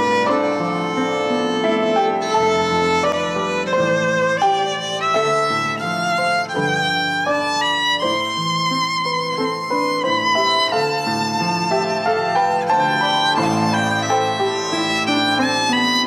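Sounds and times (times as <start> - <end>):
piano accompaniment: 0.0 - 16.0
violin slow melody: 0.0 - 16.0.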